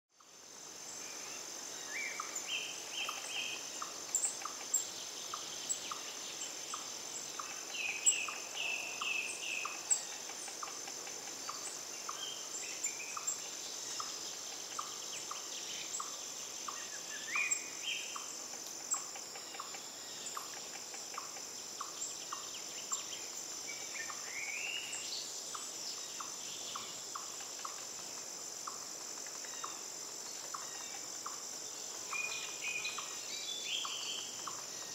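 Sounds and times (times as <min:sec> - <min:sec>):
high insect drone: 0:00.2 - 0:34.9.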